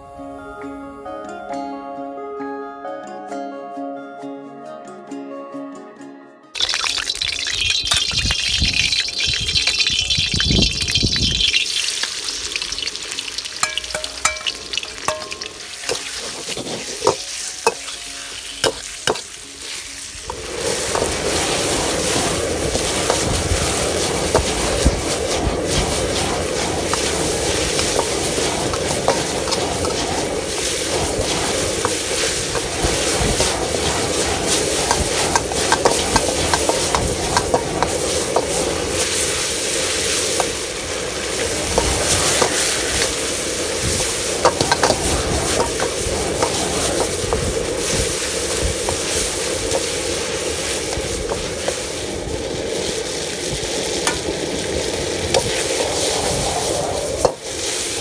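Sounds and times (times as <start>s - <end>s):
metal ladle scraping wok: 6.6s - 10.2s, 10.8s - 58.0s
chicken sizzling in wok: 6.6s - 58.0s.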